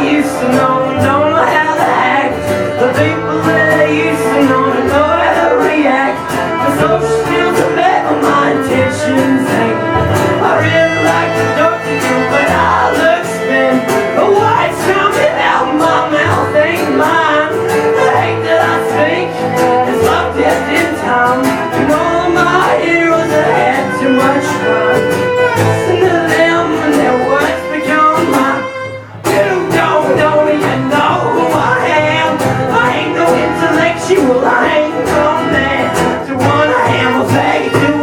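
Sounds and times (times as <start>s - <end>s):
guitars: 0.0s - 38.0s
person singing: 0.0s - 38.0s.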